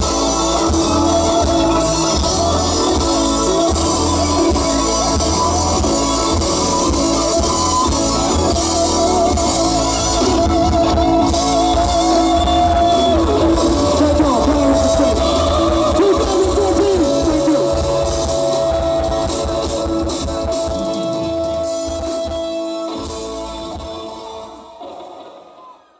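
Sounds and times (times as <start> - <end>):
live band playing loud: 0.0 - 25.9.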